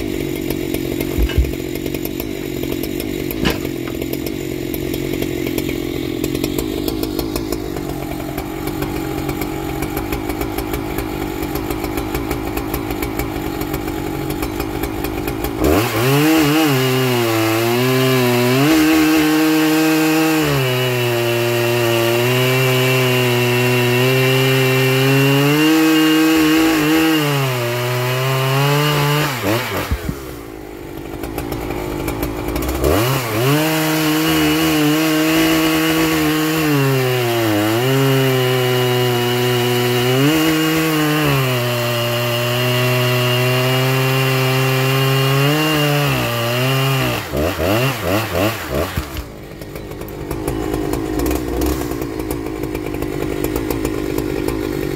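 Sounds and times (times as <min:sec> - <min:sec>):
chainsaw cutting log: 0:00.0 - 0:54.9
chainsaw engine running: 0:00.0 - 0:54.9.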